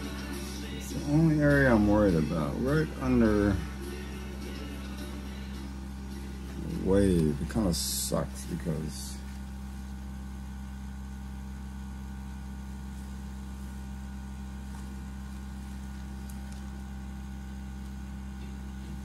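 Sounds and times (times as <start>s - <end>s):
small compressor humming: 0.0s - 19.0s.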